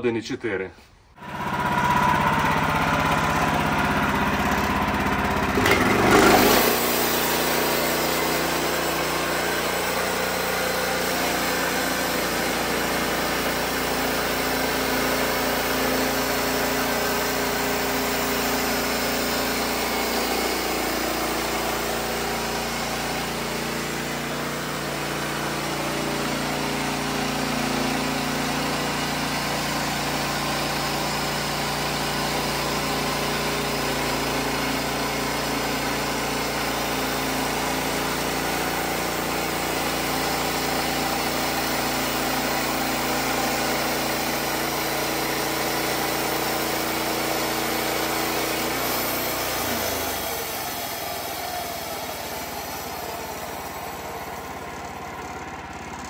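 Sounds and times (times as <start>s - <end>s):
bandsaw mill sawing log: 1.2s - 56.0s.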